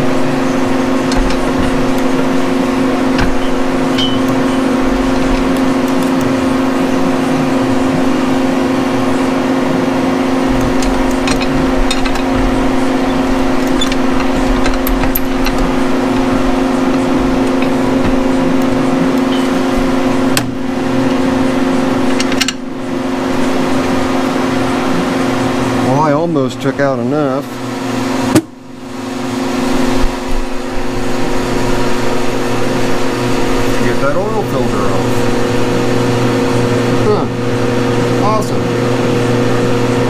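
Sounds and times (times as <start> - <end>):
space heater humming: 0.0 - 40.0.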